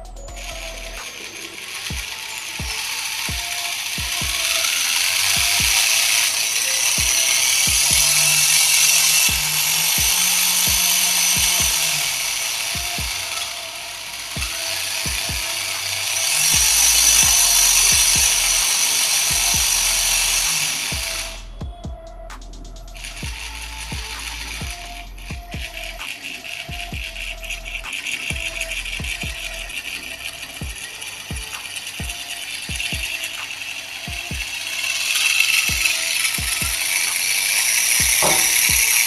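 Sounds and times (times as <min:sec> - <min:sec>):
high-pitched gear whine and rattle: 0:00.0 - 0:39.0.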